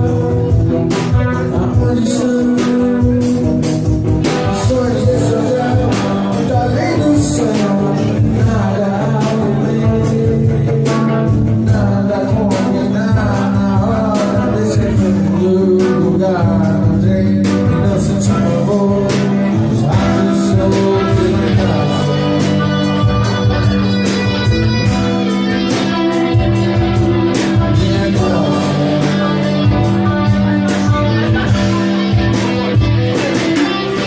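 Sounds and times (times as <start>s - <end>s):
bass guitar: 0.0s - 34.0s
drum beat: 0.0s - 34.0s
guitar: 0.0s - 34.0s
person singing: 0.0s - 34.0s.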